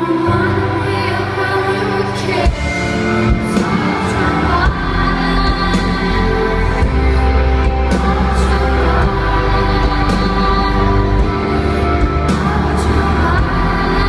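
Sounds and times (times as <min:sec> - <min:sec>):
deep bass: 0:00.0 - 0:14.0
live pop band playing: 0:00.0 - 0:14.0
woman singing: 0:00.0 - 0:14.0.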